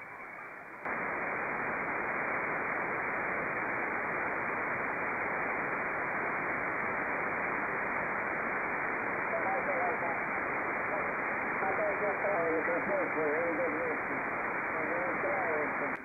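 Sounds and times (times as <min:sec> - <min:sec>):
radio band noise hiss: 0:00.0 - 0:16.0.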